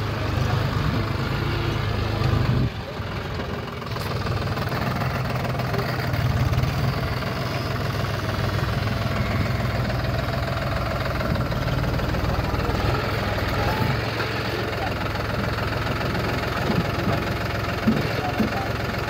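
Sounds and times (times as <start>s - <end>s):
diesel tractor engine knocking: 0.0s - 19.0s.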